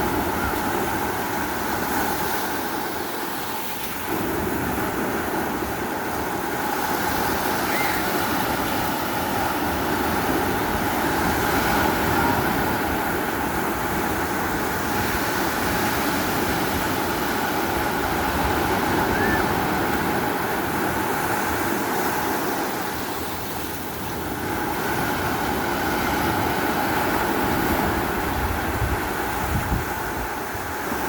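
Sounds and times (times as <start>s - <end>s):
sea surf: 0.0s - 31.0s
wind: 0.0s - 31.0s.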